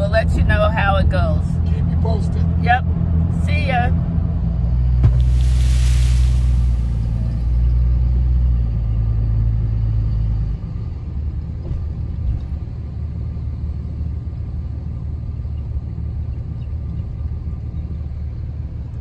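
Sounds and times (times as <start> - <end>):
diesel engine drone: 0.0 - 19.0
road rumble: 0.0 - 19.0.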